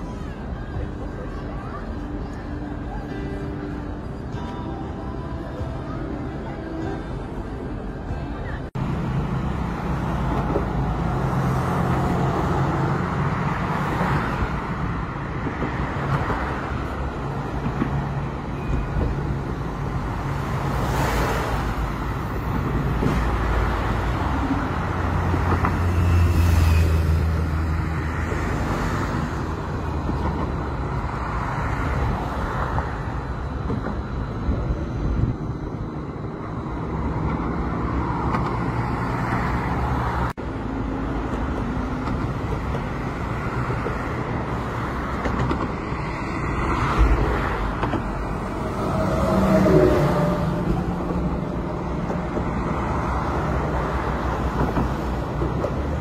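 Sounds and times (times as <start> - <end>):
traffic hum of engines and tyres: 0.0 - 56.0.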